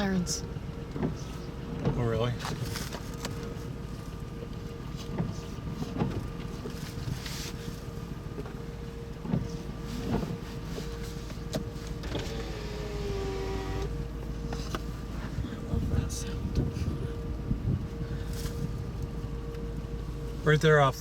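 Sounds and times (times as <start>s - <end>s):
vehicle rumble: 0.0s - 21.0s
warning siren steady tone: 0.0s - 21.0s.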